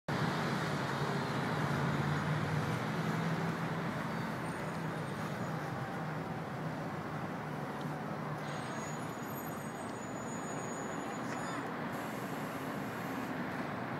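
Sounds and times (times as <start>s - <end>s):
road traffic engine drone: 0.1s - 13.9s.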